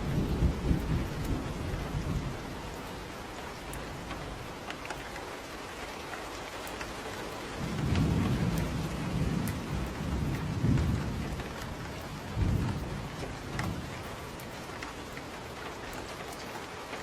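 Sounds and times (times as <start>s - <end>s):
thunder rumbling: 0.0s - 5.5s, 7.4s - 17.0s
steady rain falling: 0.0s - 17.0s
water drips: 0.0s - 17.0s.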